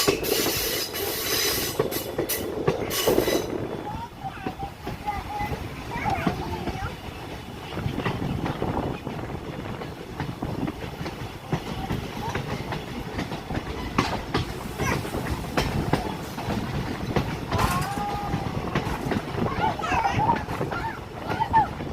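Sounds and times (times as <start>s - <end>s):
train rumble: 0.0s - 21.9s
wheels clacking over rail joints: 0.0s - 21.9s.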